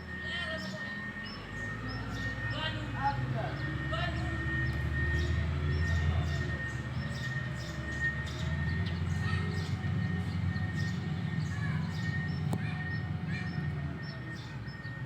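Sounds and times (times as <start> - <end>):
birds chirping: 0.0 - 15.0
diesel engine rumbling: 0.0 - 15.0.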